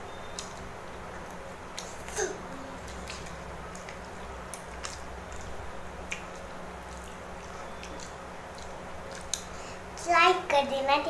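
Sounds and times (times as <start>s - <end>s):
air cooler humming: 0.0s - 11.0s
person chewing noodles: 0.2s - 9.6s.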